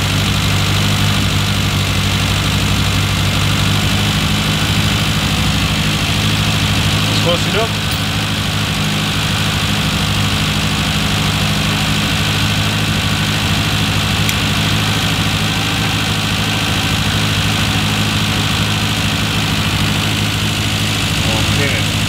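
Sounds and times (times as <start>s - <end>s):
car engine fast idle: 0.0s - 22.0s.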